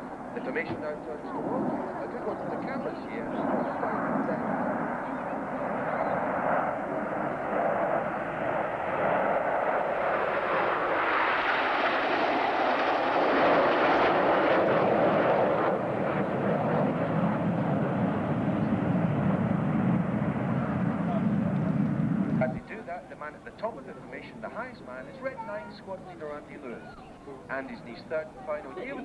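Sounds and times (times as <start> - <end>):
jets passing overhead: 0.0 - 29.0.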